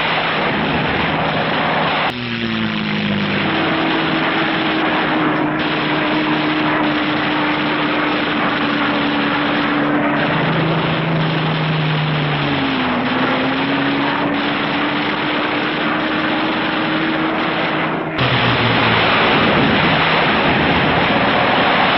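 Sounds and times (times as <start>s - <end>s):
aircraft engines droning: 0.0s - 21.9s.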